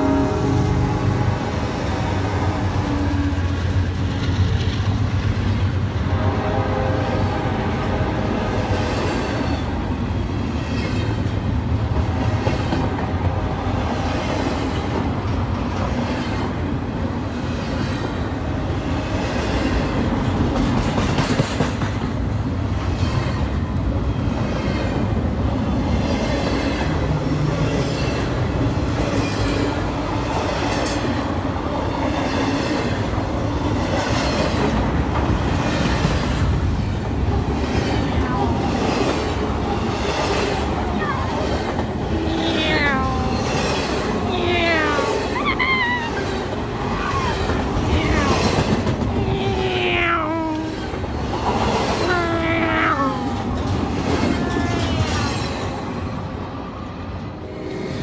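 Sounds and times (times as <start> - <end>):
train wheels rumbling on rail: 0.0 - 58.0
clickety-clack of train wheels: 2.1 - 6.0, 7.1 - 42.2, 45.0 - 49.7, 50.7 - 52.1, 53.2 - 56.8.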